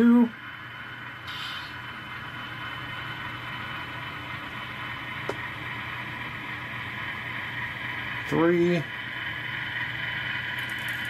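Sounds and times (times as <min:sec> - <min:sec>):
model locomotive hiss and hum: 0:00.0 - 0:11.0.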